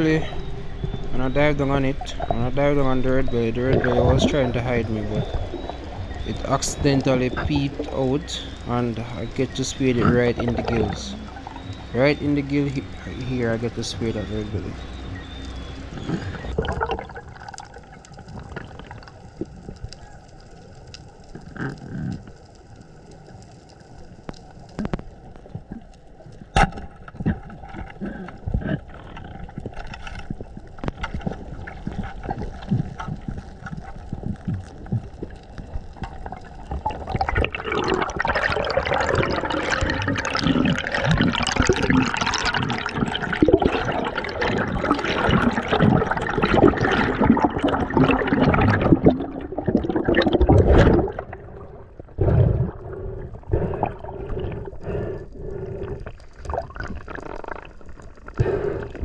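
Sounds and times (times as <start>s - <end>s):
clicks and crackles: 0.0s - 59.0s
underwater bubbling: 0.0s - 59.0s.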